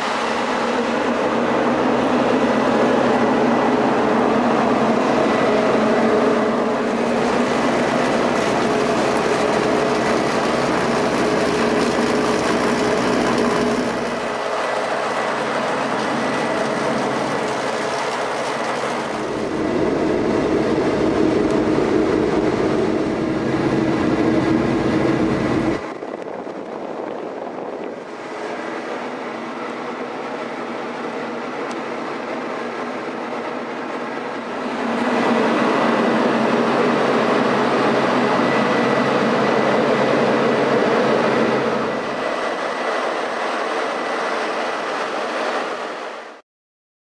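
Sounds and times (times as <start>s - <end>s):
harvester engine and conveyors: 0.0s - 46.4s.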